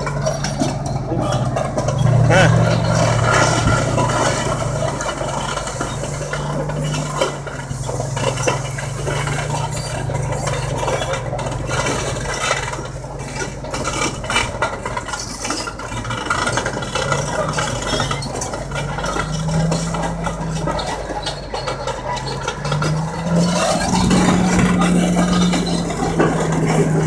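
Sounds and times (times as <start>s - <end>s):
diesel engine running under load: 0.0s - 27.0s
steel tracks clanking and rattling: 0.0s - 27.0s.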